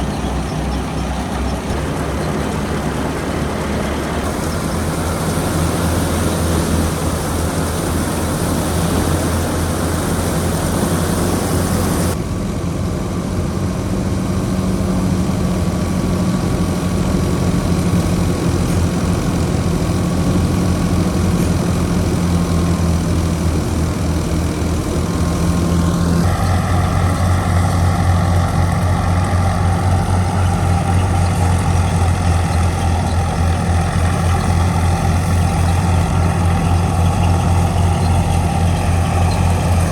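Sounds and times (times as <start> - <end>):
thresher mechanical drone: 0.0 - 39.9
tractor diesel engine running: 0.0 - 39.9.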